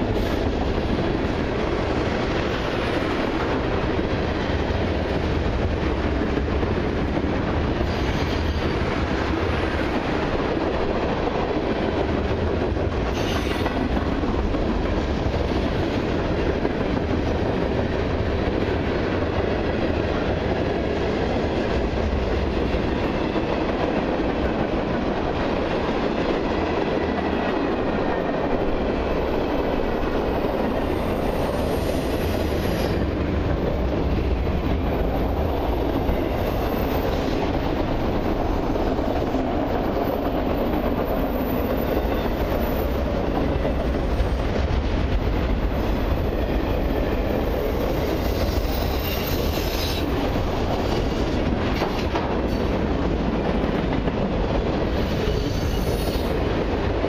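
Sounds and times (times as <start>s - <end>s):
freight train rolling past: 0.0s - 57.0s
wheels clickety-clack on rail joints: 0.0s - 57.0s.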